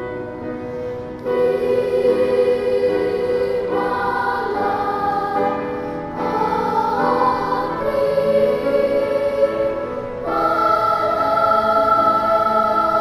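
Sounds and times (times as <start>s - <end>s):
children's choir singing: 1.2s - 13.0s.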